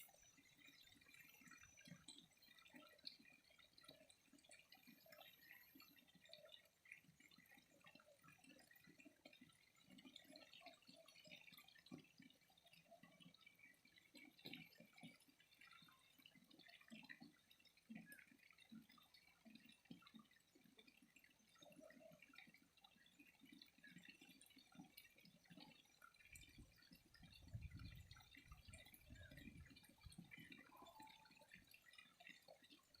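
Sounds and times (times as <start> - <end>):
small drips and bubbles: 0.0 - 33.0
water trickling and gurgling: 0.0 - 33.0.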